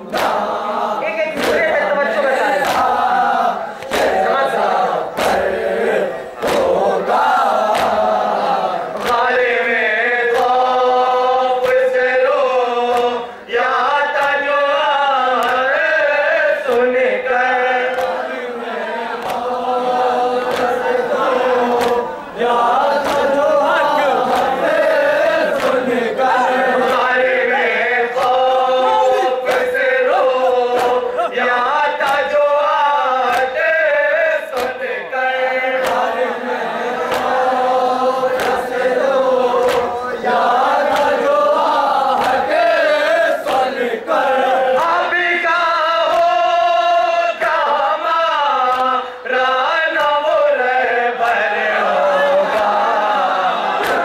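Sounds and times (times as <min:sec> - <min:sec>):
sharp rhythmic strikes: 0:00.0 - 0:45.2
lead reciter voice: 0:00.0 - 0:54.0
men chanting in unison: 0:00.0 - 0:54.0.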